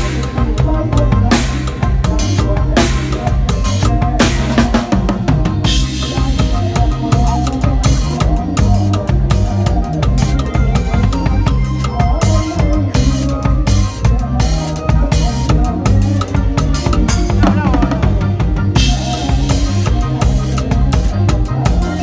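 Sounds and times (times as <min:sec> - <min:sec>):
band music with drums and bass: 0:00.0 - 0:22.0.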